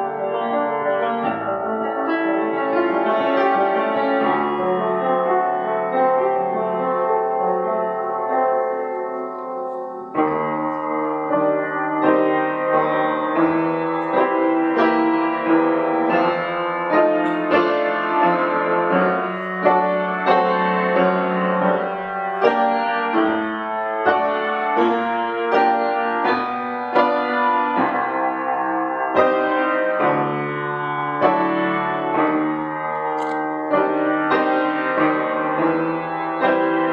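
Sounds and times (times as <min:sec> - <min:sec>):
piano playing: 0:00.0 - 0:36.9.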